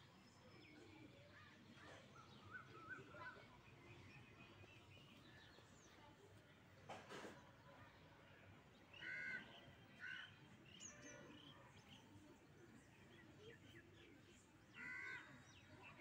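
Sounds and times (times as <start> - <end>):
quiet outdoor background noise: 0.0 - 16.0.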